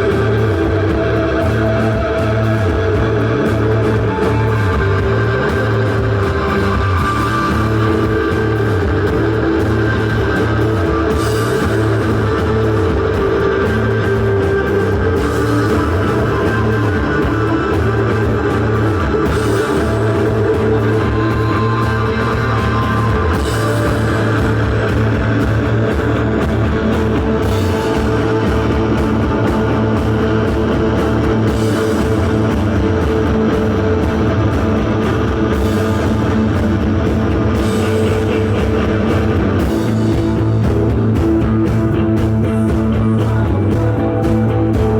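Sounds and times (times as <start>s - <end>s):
band playing live: 0.0s - 44.9s.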